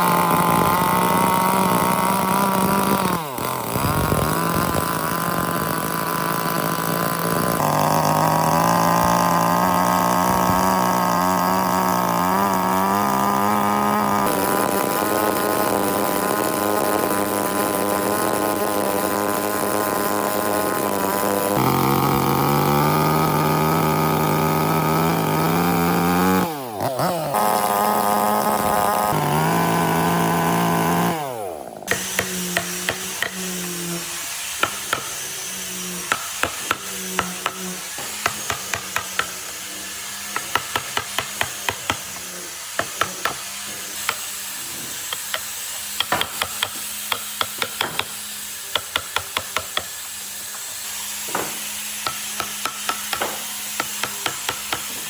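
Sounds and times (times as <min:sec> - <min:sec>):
electric power tool running: 0:00.0 - 0:55.0.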